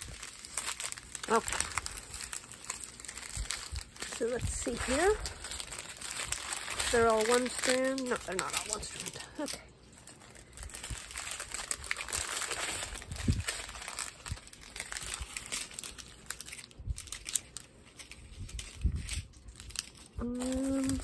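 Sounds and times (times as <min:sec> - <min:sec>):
plastic strips crinkling: 0:00.0 - 0:21.0.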